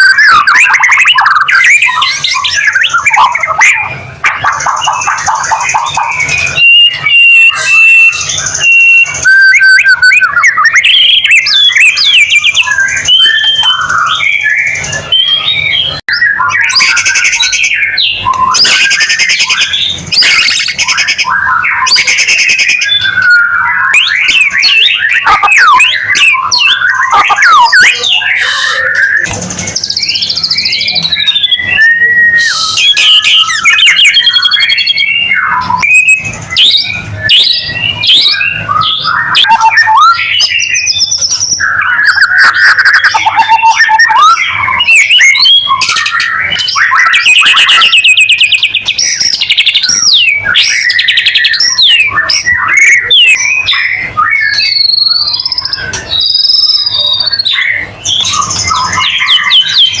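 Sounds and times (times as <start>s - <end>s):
harsh rasping bird calls: 0.0s - 60.0s
songbird whistling and trilling: 0.0s - 60.0s.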